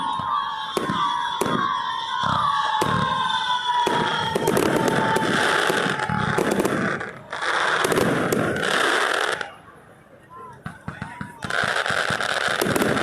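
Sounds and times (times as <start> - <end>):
fireworks bangs: 0.0 - 9.6, 10.5 - 13.0
fireworks whistling: 0.0 - 9.6, 10.5 - 13.0
fireworks crackling: 0.0 - 9.8, 10.5 - 13.0.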